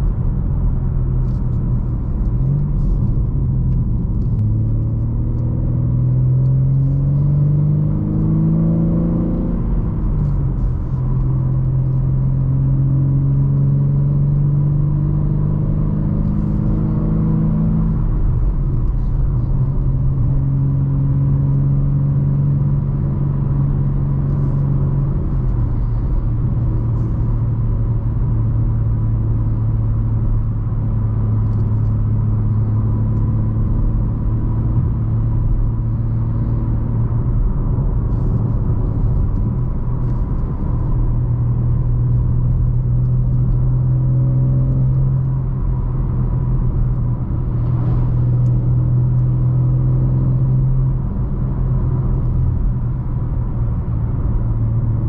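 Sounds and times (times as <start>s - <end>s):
car engine running: 0.0s - 55.0s
road rumble: 0.0s - 55.0s.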